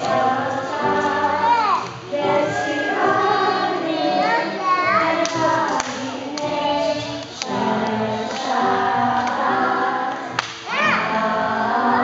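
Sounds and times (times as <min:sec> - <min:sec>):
children singing: 0:00.0 - 0:12.0
woman singing: 0:00.0 - 0:12.0.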